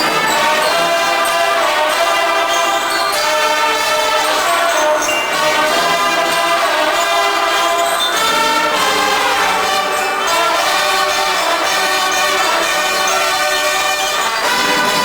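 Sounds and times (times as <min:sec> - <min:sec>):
marching band brass chords: 0:00.0 - 0:15.0.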